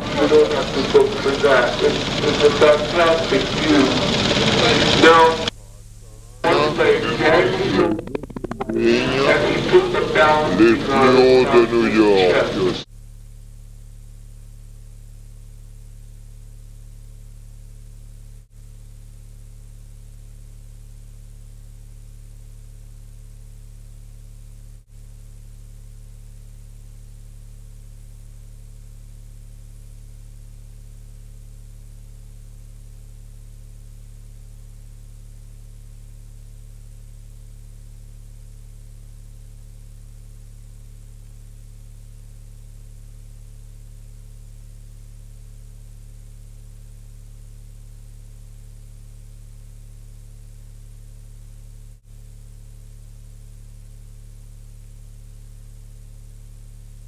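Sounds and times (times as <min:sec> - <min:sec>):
constant hiss: 0:00.0 - 0:57.0
mains hum: 0:00.0 - 0:57.0.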